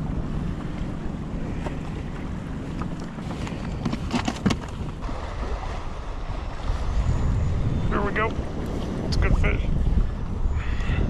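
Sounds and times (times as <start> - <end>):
water lapping: 0.0 - 11.0
wind buffeting microphone: 0.0 - 11.0.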